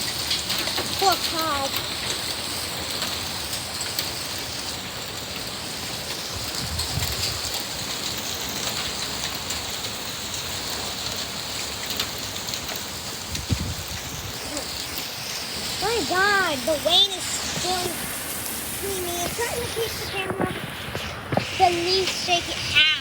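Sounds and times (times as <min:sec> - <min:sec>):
heavy rain falling: 0:00.0 - 0:23.0
raindrops ticking: 0:00.0 - 0:23.0.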